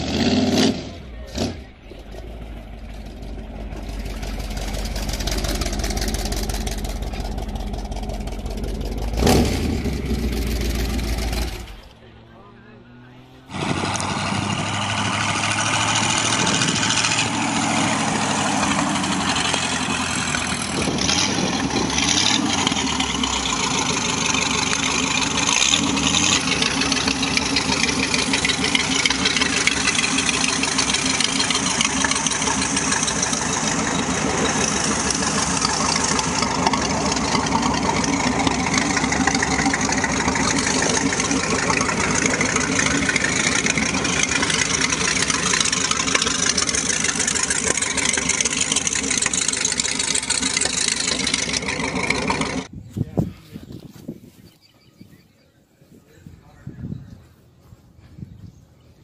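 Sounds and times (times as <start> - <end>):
engine idling: 0.0 - 52.7.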